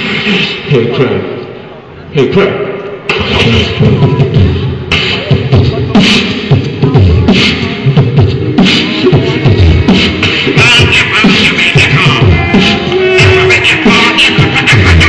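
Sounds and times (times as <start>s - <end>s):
human beatboxing: 0.0s - 1.0s, 3.0s - 15.0s.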